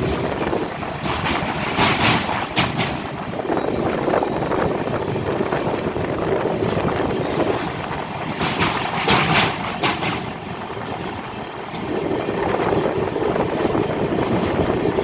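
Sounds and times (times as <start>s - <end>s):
train clatters: 0.0s - 15.0s
train rumbling over bridge: 0.0s - 15.0s.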